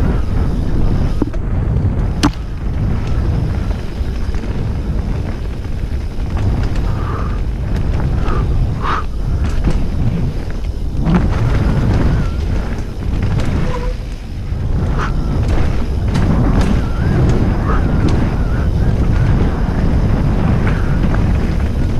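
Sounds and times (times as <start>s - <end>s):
bike rattling over dirt trail: 0.0s - 21.9s
wind rumbling on microphone: 0.0s - 21.9s.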